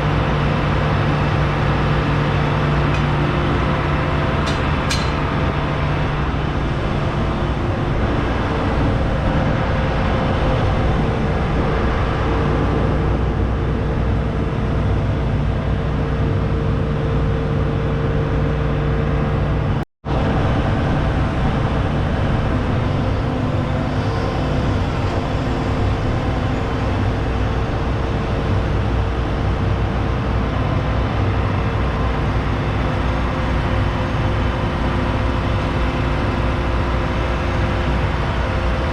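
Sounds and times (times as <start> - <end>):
large diesel engine running: 0.0 - 38.9.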